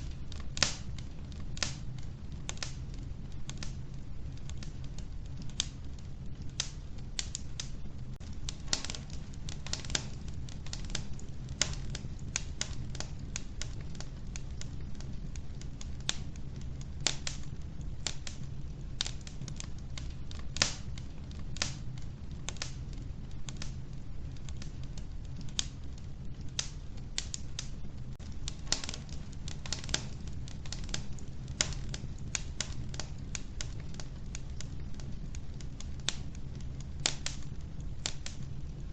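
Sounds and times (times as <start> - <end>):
stove low rumble: 0.0 - 38.9
wood fire crackling and popping: 0.0 - 38.9.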